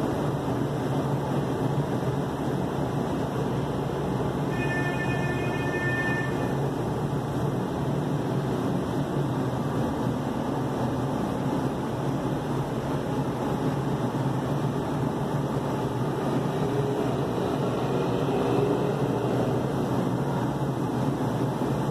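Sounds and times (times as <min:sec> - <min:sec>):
steady background noise: 0:00.0 - 0:21.9.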